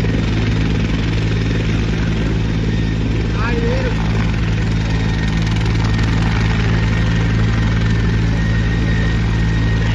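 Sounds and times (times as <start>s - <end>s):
helicopter engine and rotor hum: 0.0s - 9.9s.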